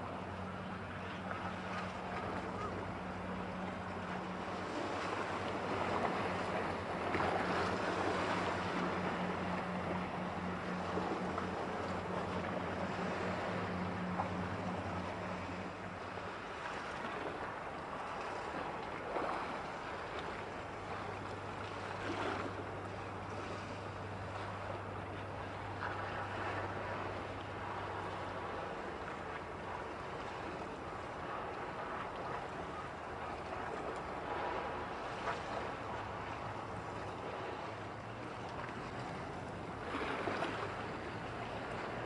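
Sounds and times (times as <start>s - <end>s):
ship engine drone: 0.0s - 42.0s
waves lapping: 0.0s - 42.0s
wind: 0.0s - 42.0s.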